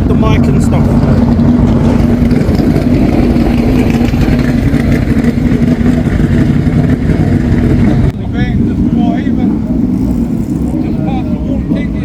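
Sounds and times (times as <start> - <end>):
race car engines at high revs: 0.0 - 12.0.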